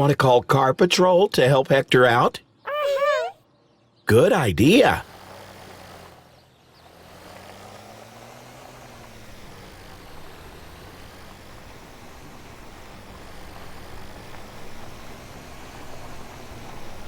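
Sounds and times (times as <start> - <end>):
low hum of vehicle engine: 1.4 - 17.0.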